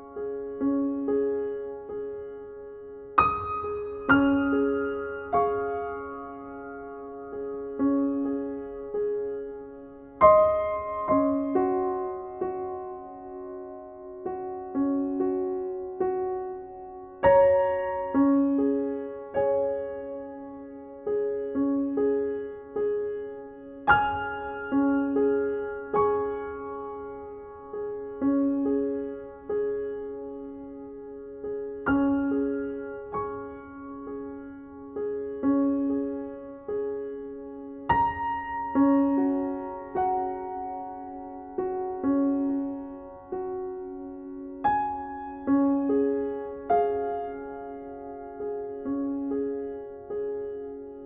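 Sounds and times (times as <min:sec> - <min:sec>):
soft slow piano chords: 0:00.0 - 0:51.0.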